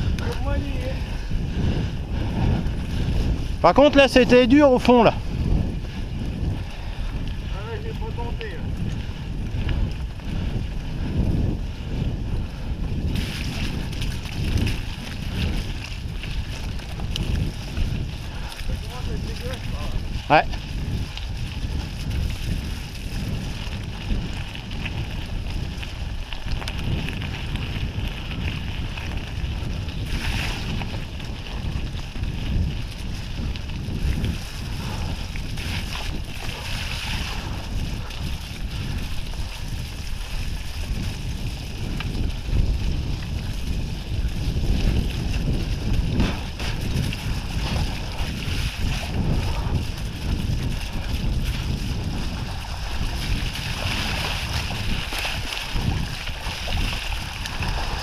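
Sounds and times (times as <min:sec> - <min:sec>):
mountain bike rumble and rattle: 0:00.0 - 0:58.0
wind buffeting microphone: 0:00.0 - 0:58.0.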